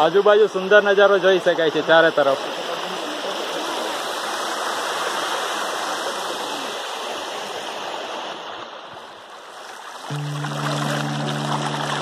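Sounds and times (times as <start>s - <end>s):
waterfall rushing water: 0.0s - 8.8s, 9.4s - 12.0s.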